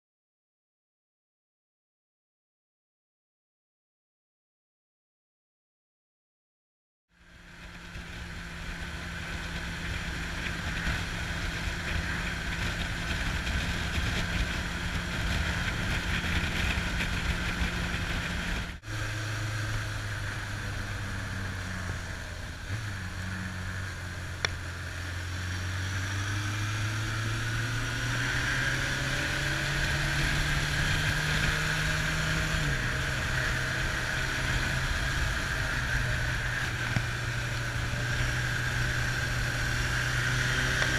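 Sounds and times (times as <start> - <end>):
motorcycle engine pulling: 7.9 - 40.9
wind rushing over microphone: 8.0 - 40.9.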